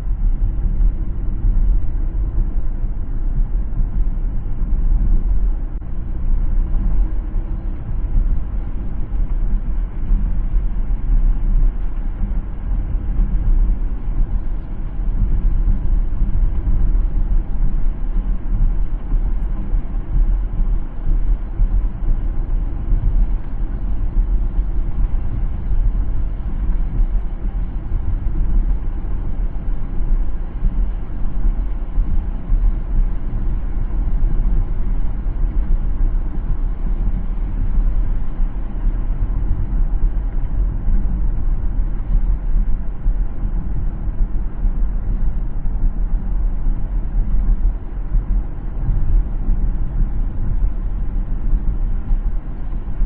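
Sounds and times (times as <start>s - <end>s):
road and tyre noise: 0.0s - 53.0s.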